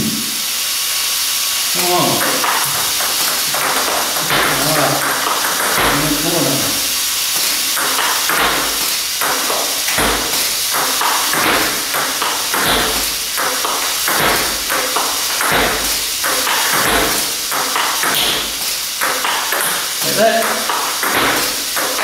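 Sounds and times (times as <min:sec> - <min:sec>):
launch motors hissing: 0:00.0 - 0:20.2
table tennis balls clicking: 0:02.0 - 0:22.0
paddle hitting ball: 0:02.1 - 0:22.0.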